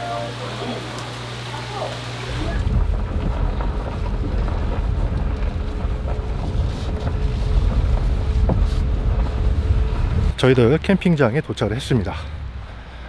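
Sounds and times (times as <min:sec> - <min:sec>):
car driving on gravel: 0:02.2 - 0:13.0.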